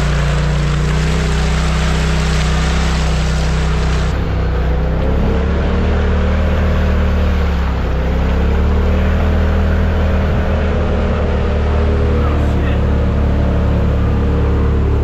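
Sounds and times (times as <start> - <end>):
rushing water: 0.0 - 15.0
vehicle engine running under load: 0.0 - 15.0.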